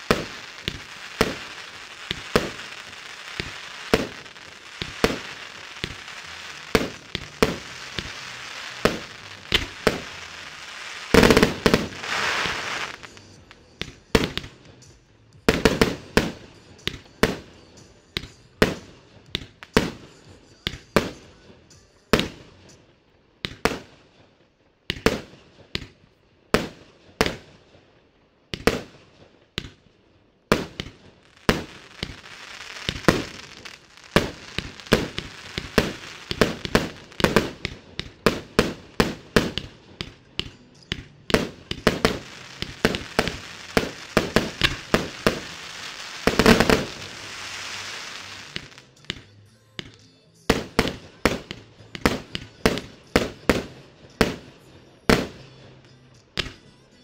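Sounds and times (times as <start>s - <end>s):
firework bangs: 0.0s - 21.4s, 24.9s - 27.9s, 28.5s - 29.8s, 30.5s - 55.5s.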